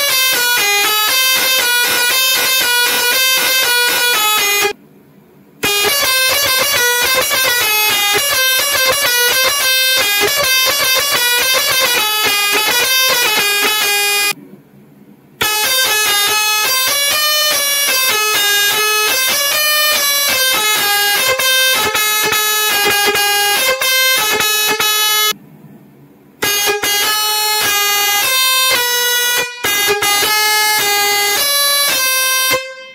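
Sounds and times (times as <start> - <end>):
musical horn playing melody: 0.0 - 4.8, 5.6 - 14.4, 15.4 - 25.4, 26.4 - 32.9.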